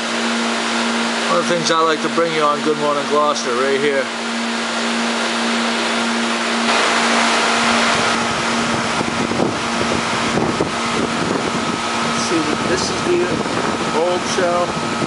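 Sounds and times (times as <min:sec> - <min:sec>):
pumps droning: 0:00.3 - 0:15.0.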